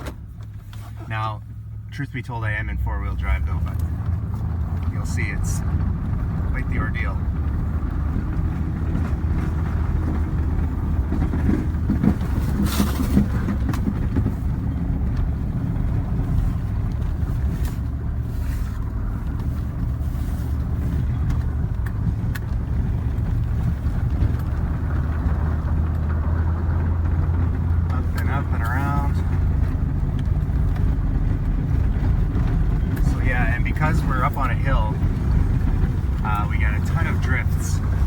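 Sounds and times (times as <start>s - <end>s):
pickup truck engine under load: 0.0s - 38.0s.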